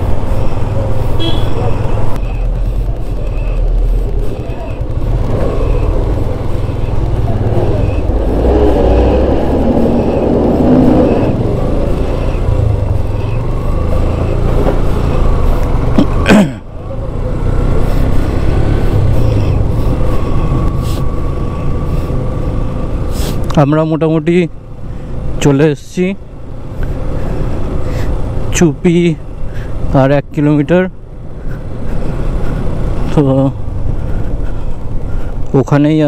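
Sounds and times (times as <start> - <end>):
motorcycle engine riding: 0.0 - 36.0.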